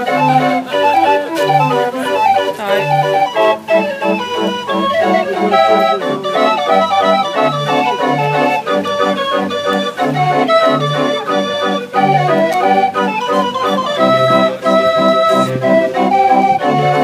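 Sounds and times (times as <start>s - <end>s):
fairground organ playing a tune: 0.0s - 17.0s.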